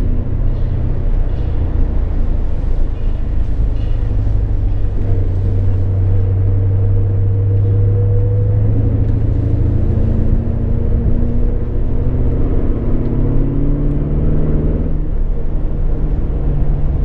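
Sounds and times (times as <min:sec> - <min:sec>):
car engine drone from inside: 0:00.0 - 0:17.0.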